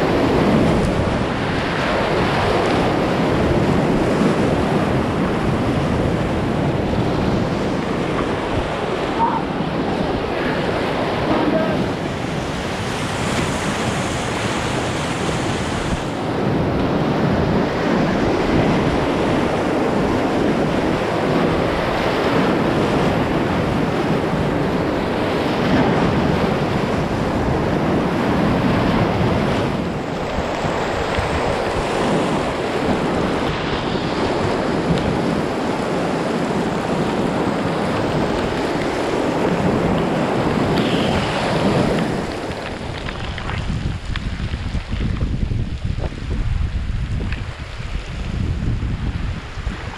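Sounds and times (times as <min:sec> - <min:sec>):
whitewater rushing and splashing: 0:00.0 - 0:45.0
wind buffeting microphone: 0:00.0 - 0:49.9.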